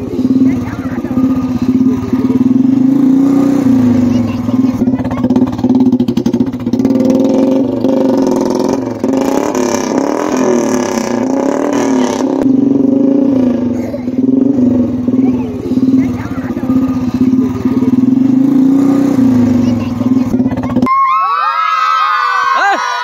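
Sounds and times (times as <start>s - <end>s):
motorcycle engine running loud: 0.0s - 20.9s.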